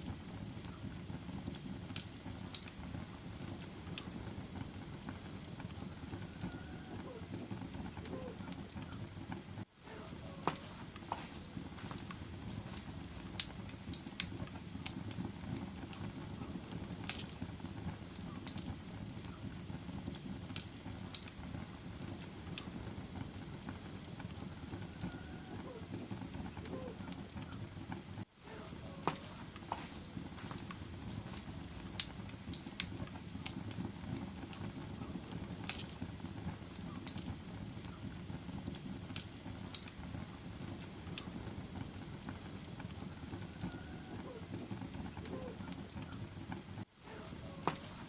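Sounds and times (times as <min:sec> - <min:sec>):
fire crackling and popping: 0:00.0 - 0:48.0.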